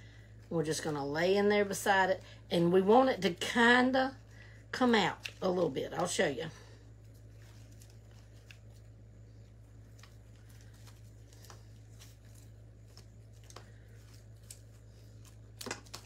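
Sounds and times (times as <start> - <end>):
steady low hum: 0.0 - 16.0
rustling of sprigs: 0.1 - 16.0.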